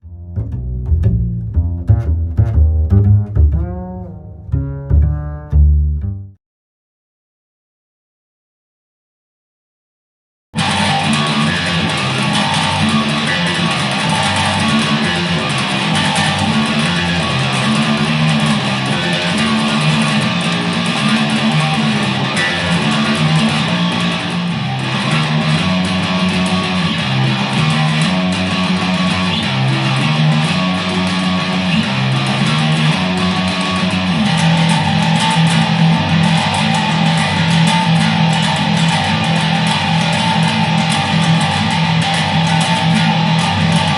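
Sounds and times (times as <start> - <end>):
distorted electric bass riff: 0.0 - 6.4, 10.6 - 43.9.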